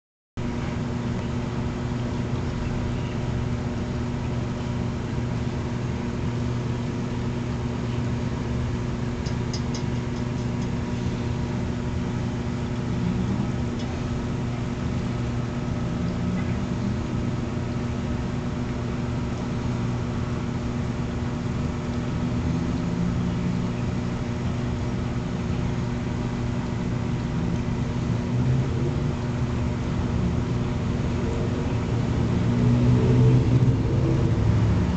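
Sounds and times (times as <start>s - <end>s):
low machine hum: 0.4s - 34.9s.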